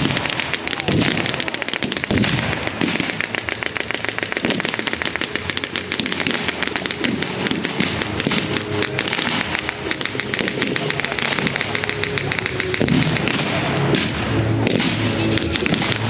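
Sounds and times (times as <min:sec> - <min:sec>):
blank gunfire pops: 0:00.0 - 0:16.0.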